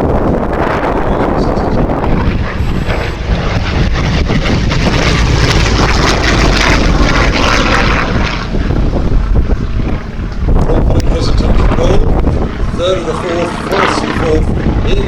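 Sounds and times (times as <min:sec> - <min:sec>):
propeller aircraft engine: 0:00.0 - 0:15.0.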